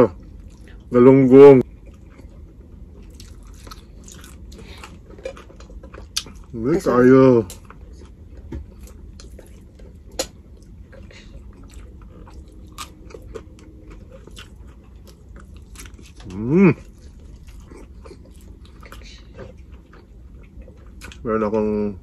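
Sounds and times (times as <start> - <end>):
chewing and crunching: 0.1 - 1.0, 1.6 - 22.0.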